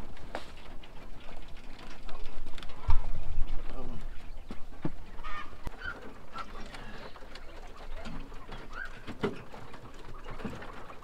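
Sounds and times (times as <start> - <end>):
poultry chirping and clucking: 0.0 - 11.0.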